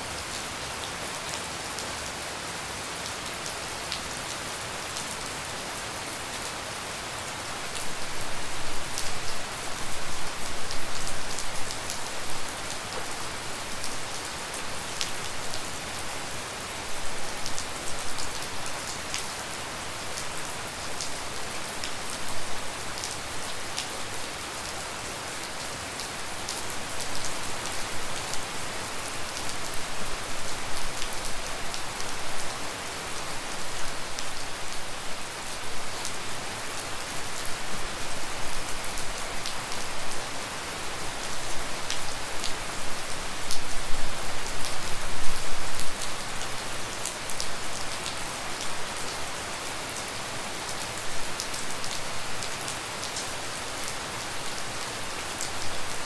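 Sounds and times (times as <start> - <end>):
rain: 0.0 - 56.0.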